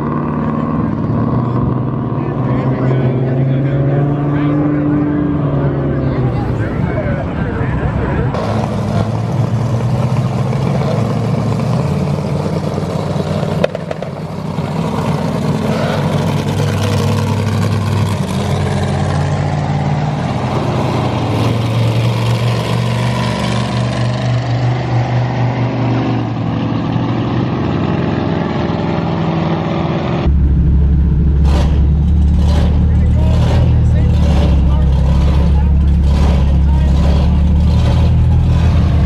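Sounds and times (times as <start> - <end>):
road and wind noise: 0.0 - 39.0
vehicle engine droning: 0.0 - 39.0.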